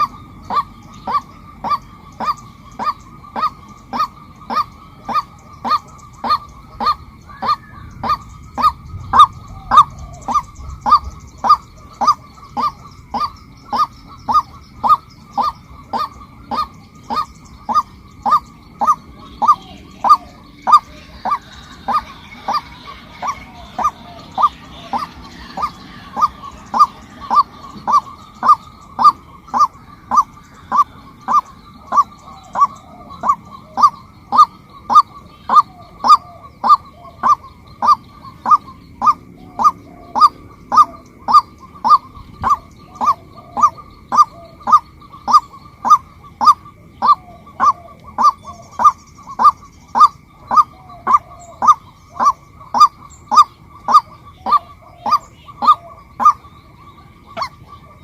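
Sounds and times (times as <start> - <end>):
waterhen calling: 0.0 - 58.0.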